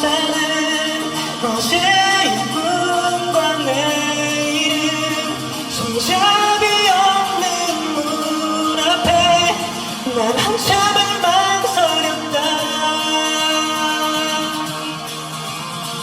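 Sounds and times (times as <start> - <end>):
man singing: 0.0 - 15.4
band accompaniment: 0.0 - 16.0.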